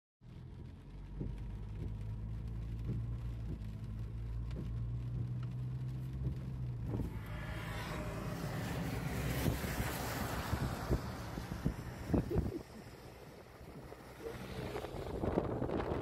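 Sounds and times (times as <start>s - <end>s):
car engine and road drone: 0.2s - 16.0s.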